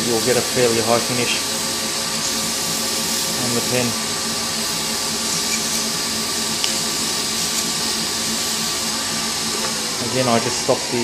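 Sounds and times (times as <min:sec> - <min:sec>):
sandpaper hissing on spinning wood: 0:00.0 - 0:11.0
wood lathe motor humming: 0:00.0 - 0:11.0.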